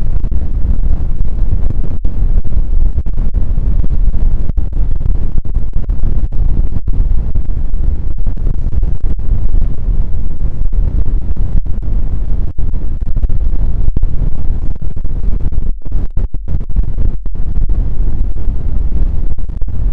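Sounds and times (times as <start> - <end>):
microphone wind-like rumble: 0.0 - 19.9.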